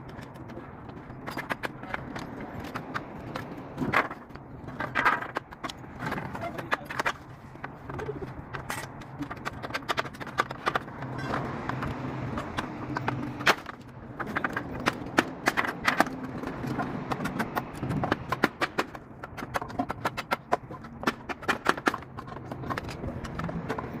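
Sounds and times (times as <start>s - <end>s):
sharp knocks and clicks: 0.0s - 24.0s.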